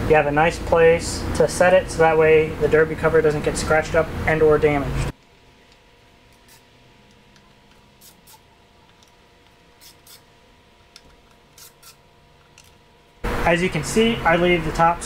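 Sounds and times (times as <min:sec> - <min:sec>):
quiet steady hum: 0:00.0 - 0:15.0.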